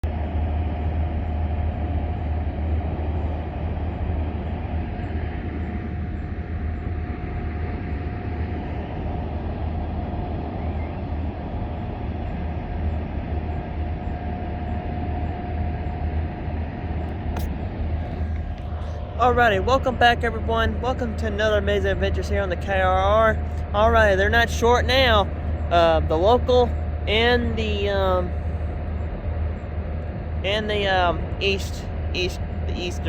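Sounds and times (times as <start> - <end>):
diesel locomotives running: 0.0 - 33.0.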